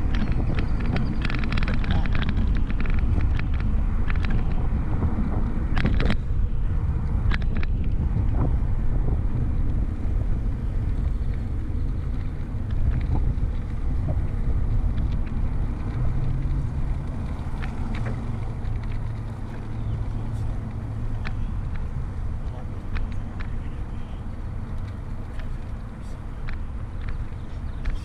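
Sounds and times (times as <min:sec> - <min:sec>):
faint clicks: 0:00.0 - 0:06.2, 0:10.5 - 0:28.0
wind buffeting microphone: 0:00.0 - 0:28.0.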